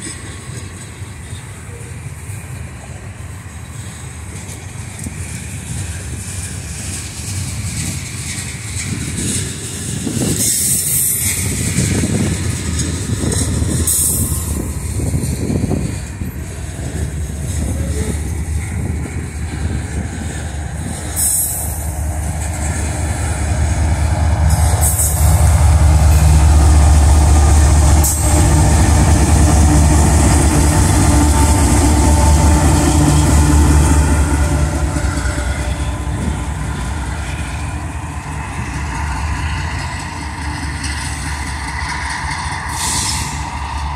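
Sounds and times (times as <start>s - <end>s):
diesel locomotive engine drone: 0.0s - 43.9s
freight cars rumbling on rails: 0.0s - 43.9s.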